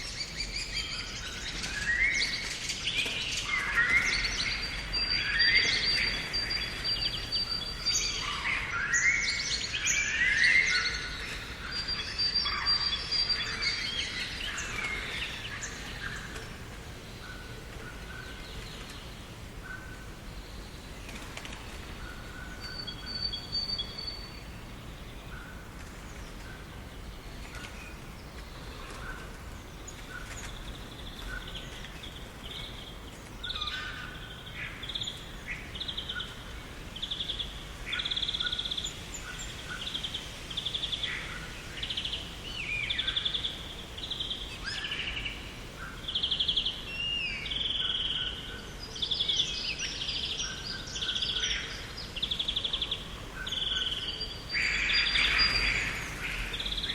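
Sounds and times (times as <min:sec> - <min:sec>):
birds singing and chirping: 0:00.0 - 0:56.9
low background noise: 0:00.0 - 0:56.9.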